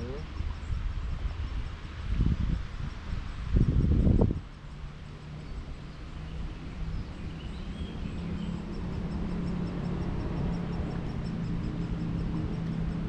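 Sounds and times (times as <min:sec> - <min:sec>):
low rumble with a hum: 0:00.0 - 0:13.0.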